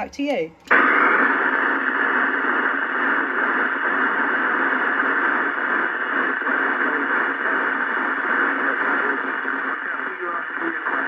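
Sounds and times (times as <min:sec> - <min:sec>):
radio static hiss: 0:00.7 - 0:11.0.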